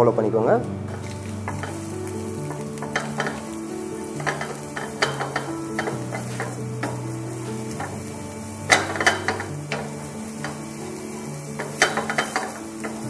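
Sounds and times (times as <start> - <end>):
garlic sizzling in oil: 0.0 - 13.0
wooden spatula scraping pan: 0.9 - 13.0.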